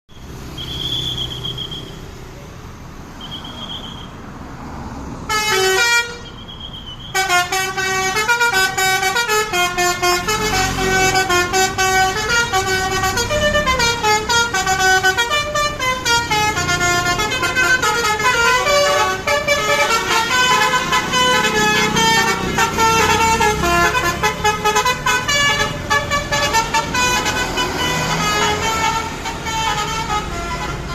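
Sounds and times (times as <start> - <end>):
traffic rumble: 0.1 - 30.9
musical bus horn: 5.3 - 30.9.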